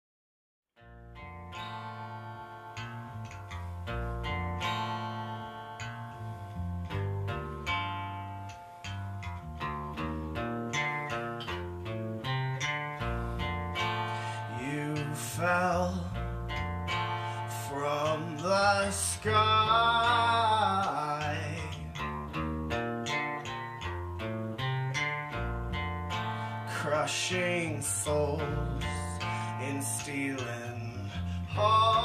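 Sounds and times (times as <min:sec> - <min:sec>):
acoustic guitar: 0:00.8 - 0:32.0
electric bass: 0:00.8 - 0:32.0.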